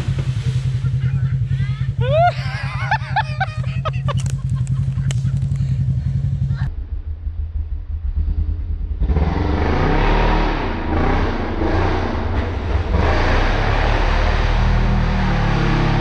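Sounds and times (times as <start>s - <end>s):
vehicle splashing through mud: 0.0s - 6.6s, 9.0s - 16.0s
vehicle engine revving: 0.0s - 16.0s.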